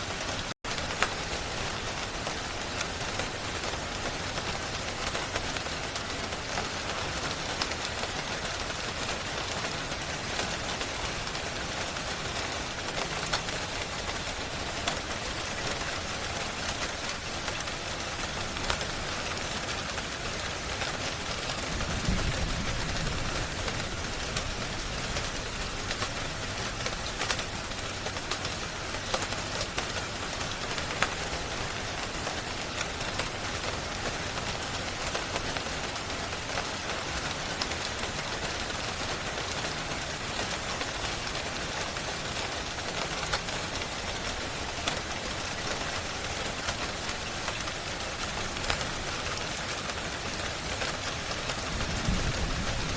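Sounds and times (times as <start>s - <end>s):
rain hiss: 0.0s - 52.9s.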